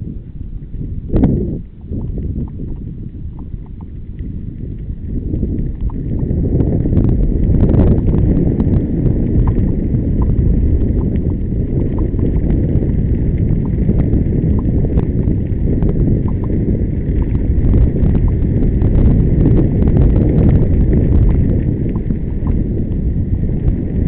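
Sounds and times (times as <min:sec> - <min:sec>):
loud low rumble: 0:00.0 - 0:24.0
wind buffeting microphone: 0:00.0 - 0:24.0.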